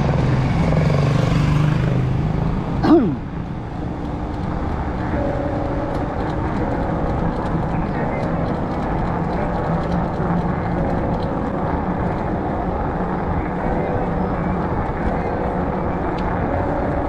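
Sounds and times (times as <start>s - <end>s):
bicycle tyres rolling on pavement: 3.3s - 17.0s.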